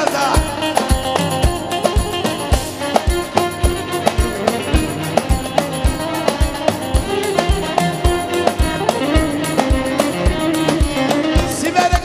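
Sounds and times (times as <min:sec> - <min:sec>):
bass drum beating: 0:00.0 - 0:12.0
bending melody line: 0:00.0 - 0:12.0.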